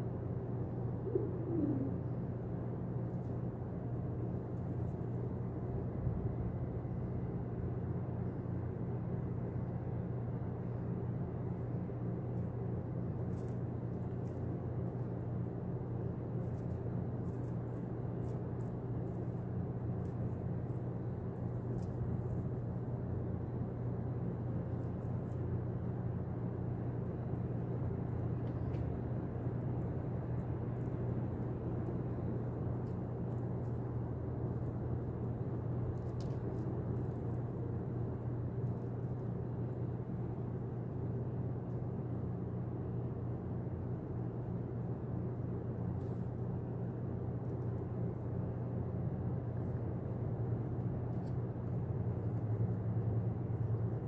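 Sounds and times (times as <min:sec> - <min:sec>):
low mechanical hum and rumble: 0:00.0 - 0:54.0.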